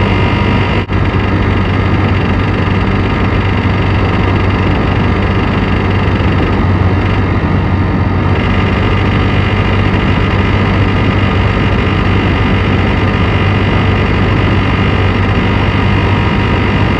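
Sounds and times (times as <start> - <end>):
scooter engine clattering: 0.0 - 7.5, 8.3 - 16.9.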